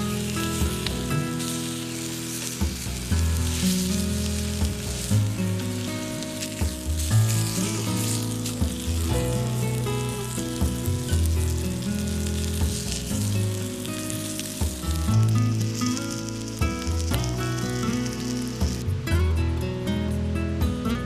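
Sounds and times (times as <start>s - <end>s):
food sizzling in frying: 0.0s - 19.4s
background music: 0.0s - 21.0s.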